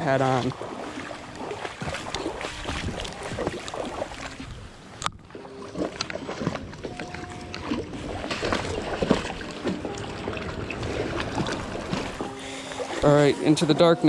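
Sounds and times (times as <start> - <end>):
water splashing in a creek: 0.0 - 14.0.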